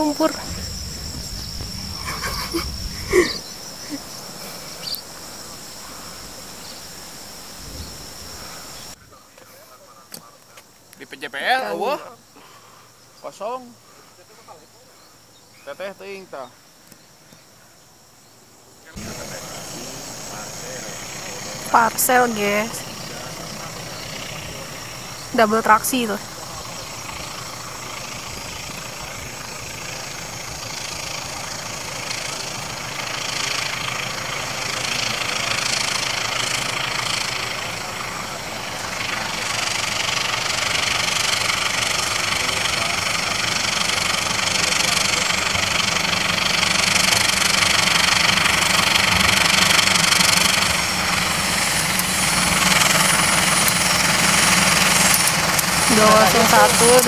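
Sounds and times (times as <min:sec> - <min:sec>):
diesel locomotive engines running: 0:00.0 - 0:17.0, 0:18.9 - 0:57.0.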